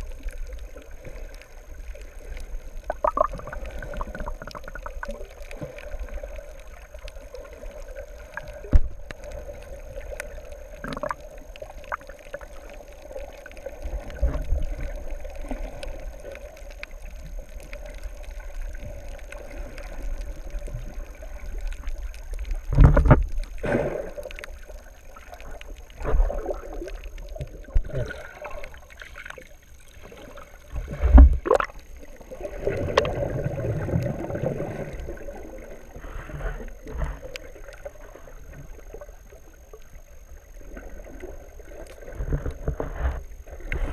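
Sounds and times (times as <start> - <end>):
steady hum: 0.0 - 43.9
underwater water movement: 0.0 - 43.9.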